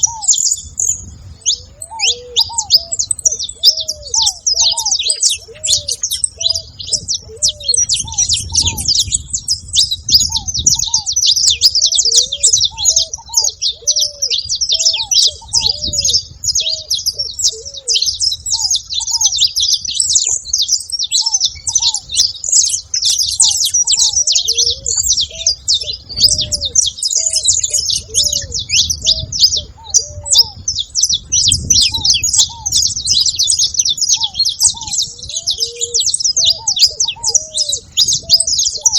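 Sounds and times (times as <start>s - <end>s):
finches chirping and trilling: 0.0s - 38.9s.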